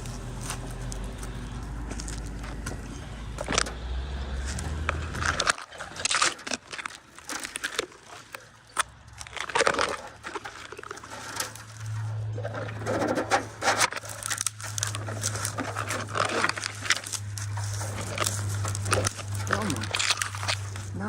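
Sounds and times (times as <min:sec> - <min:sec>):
low engine hum: 0:00.0 - 0:07.3, 0:10.0 - 0:21.0
dry twigs crackling and snapping: 0:00.0 - 0:21.0.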